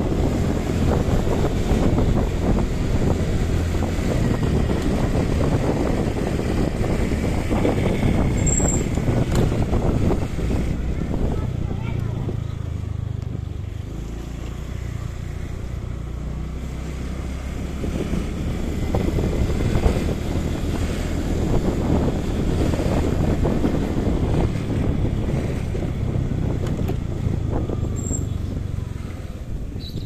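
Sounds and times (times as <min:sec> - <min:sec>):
motorcycle engine running: 0:00.0 - 0:29.6
wind rumbling on microphone: 0:00.0 - 0:30.0.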